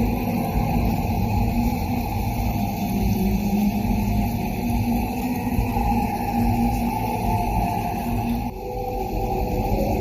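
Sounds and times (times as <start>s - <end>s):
low rumbling ambient drone: 0.0s - 10.0s.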